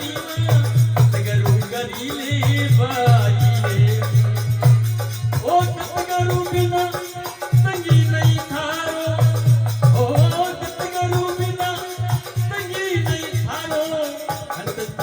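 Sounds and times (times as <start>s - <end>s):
hand-drum beat: 0.0s - 15.0s.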